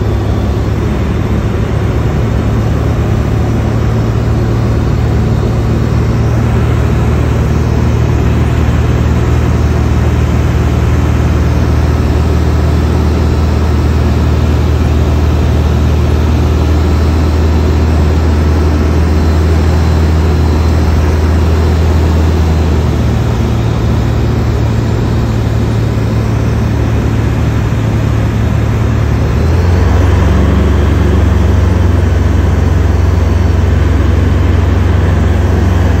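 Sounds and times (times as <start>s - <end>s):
light aircraft engine drone in cabin: 0.0s - 36.0s.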